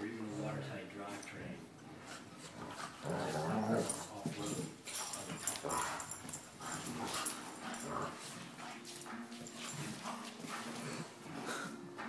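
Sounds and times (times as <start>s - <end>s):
dogs growling: 0.2s - 12.0s
paws scuffling on wooden floor: 1.9s - 12.0s.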